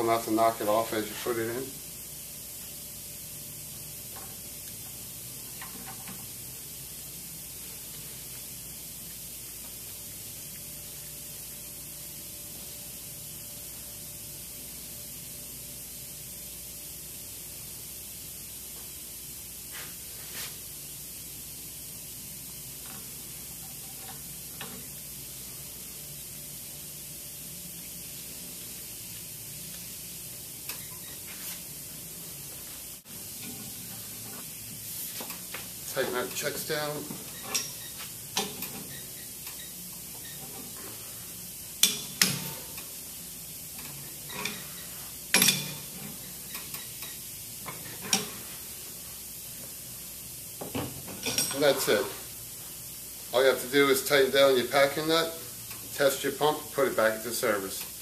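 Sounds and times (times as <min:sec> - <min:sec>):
high hiss of recording noise: 0:00.0 - 0:58.0.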